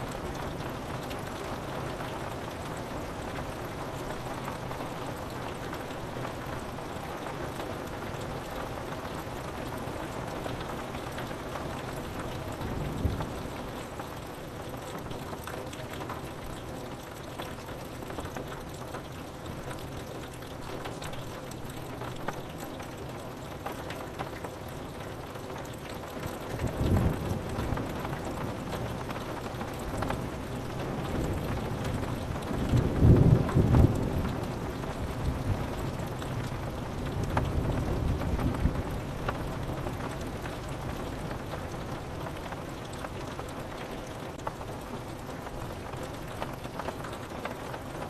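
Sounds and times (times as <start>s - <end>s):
rain pattering on window: 0.0s - 48.0s.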